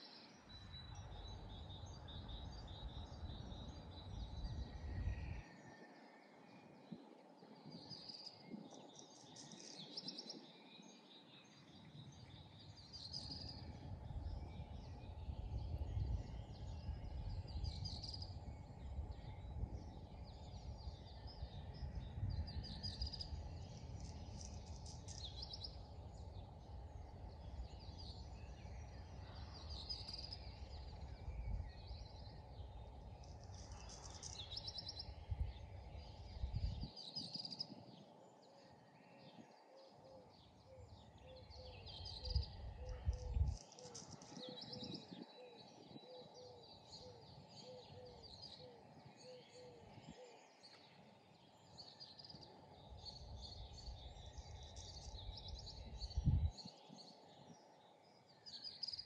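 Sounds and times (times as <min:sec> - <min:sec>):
small birds chirping: 0:00.0 - 0:05.9, 0:06.6 - 0:59.0
wind rumble on microphone: 0:00.4 - 0:59.0.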